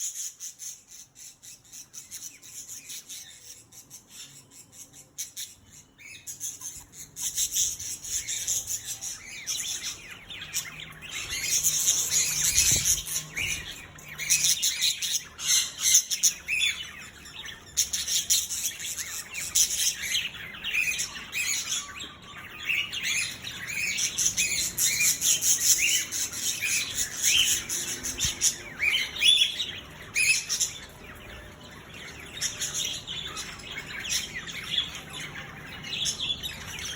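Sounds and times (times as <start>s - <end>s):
birds squawking and chirping: 0.0s - 36.9s.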